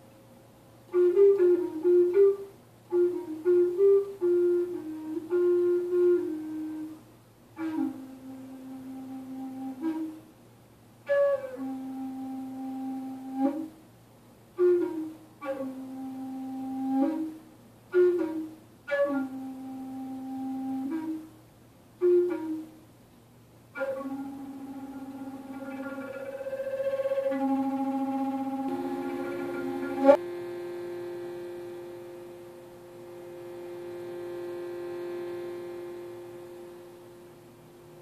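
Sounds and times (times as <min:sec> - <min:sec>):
wooden flute playing slow phrases: 0:00.8 - 0:10.4, 0:11.0 - 0:13.8, 0:14.5 - 0:22.9, 0:23.7 - 0:38.0.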